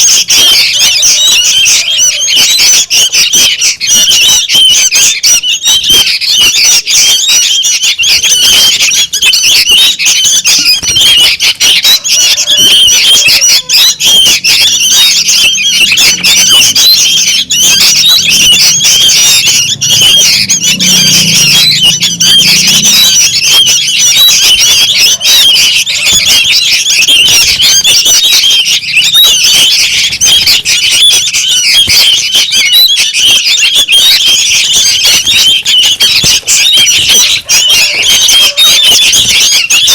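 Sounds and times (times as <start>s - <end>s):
chicks squawking noisily: 0.0s - 39.9s.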